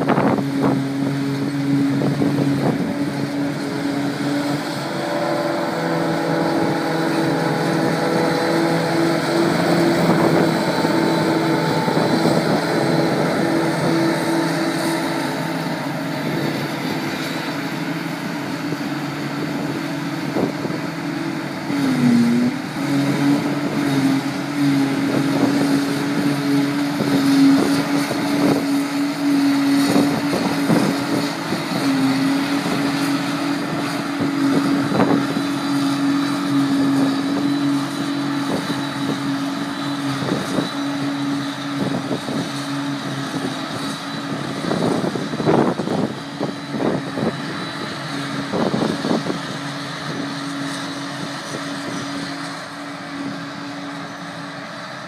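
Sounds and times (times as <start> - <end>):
forage harvester engine droning: 0.0 - 55.0.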